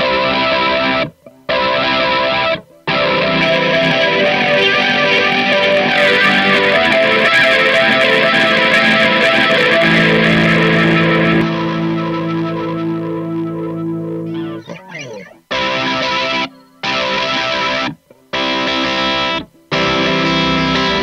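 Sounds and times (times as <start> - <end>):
electric guitar chord ringing: 0.0 - 21.0.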